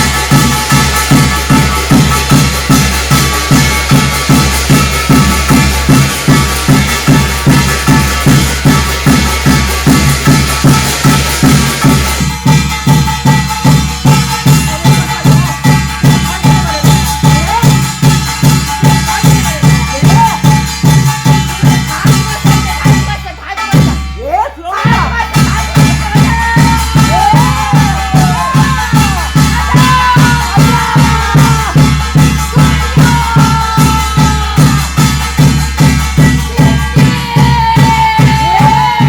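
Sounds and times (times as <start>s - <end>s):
drum beating steady rhythm: 0.0s - 39.0s
shimmering metal percussion: 0.0s - 39.0s.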